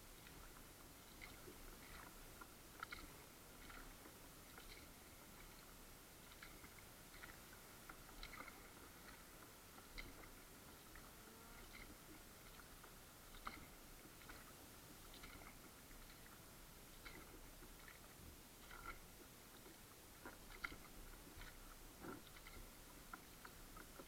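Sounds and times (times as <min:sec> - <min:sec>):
faint small clicks and ticks: 0:00.1 - 0:24.0.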